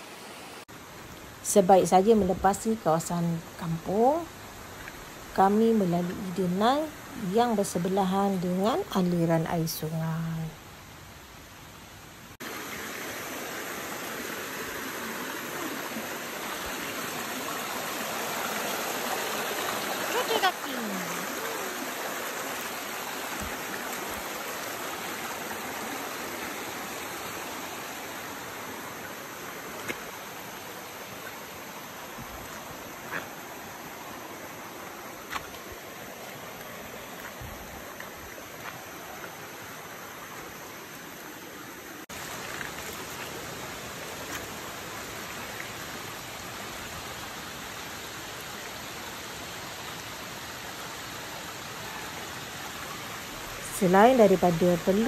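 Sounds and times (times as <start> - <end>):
stream rushing over stones: 0.0 - 55.0.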